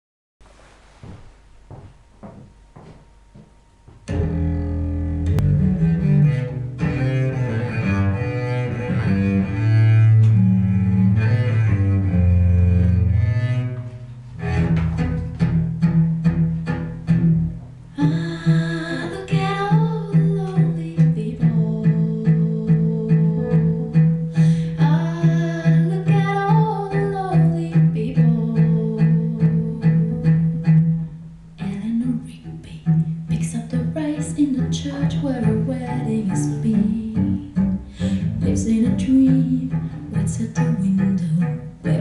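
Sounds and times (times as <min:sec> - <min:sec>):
bowed string music: 0:03.9 - 0:42.0.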